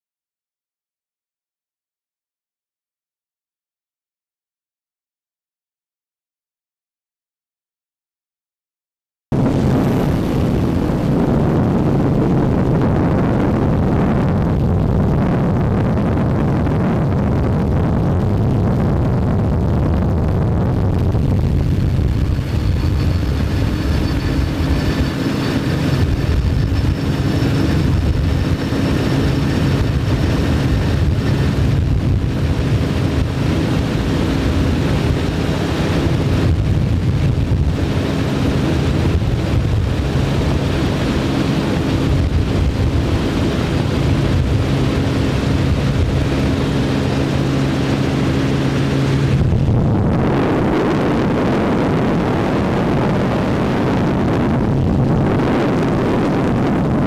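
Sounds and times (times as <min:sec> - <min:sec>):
powerboat engine with high whine: 0:09.3 - 0:57.0
water and wind rushing: 0:09.3 - 0:57.0.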